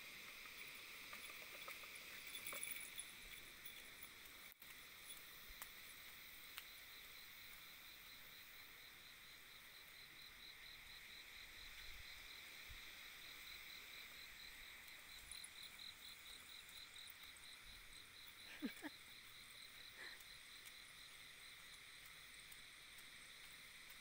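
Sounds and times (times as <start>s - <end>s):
insect chirping trill: 0.0s - 24.0s.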